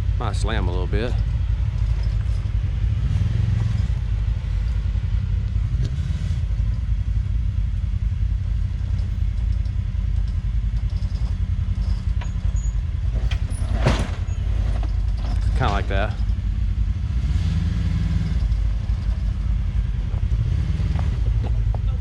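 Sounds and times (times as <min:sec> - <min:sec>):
engine rumbling at low speed: 0:00.0 - 0:22.0.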